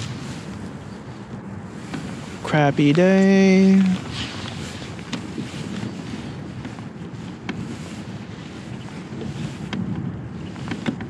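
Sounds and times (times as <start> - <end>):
water lapping at kayak hull: 0.0 - 11.0
wind buffeting microphone: 0.0 - 11.0.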